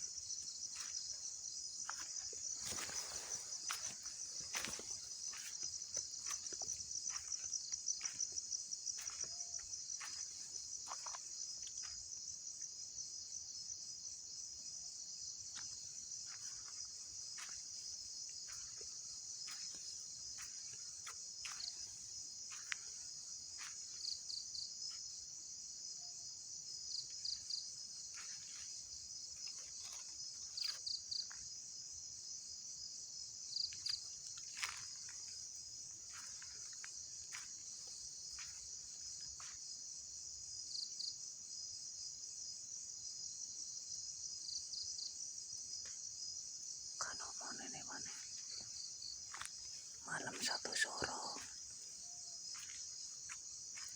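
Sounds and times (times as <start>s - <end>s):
insect chirps: 0.0s - 53.9s
night insects trilling: 0.0s - 53.9s.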